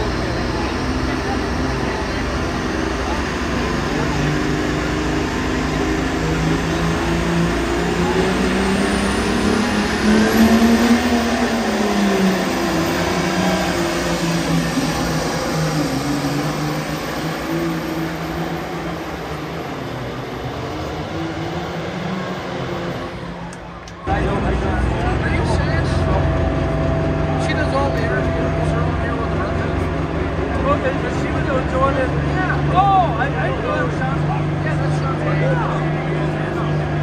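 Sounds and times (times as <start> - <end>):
tractor engine under full load: 0.0 - 37.0.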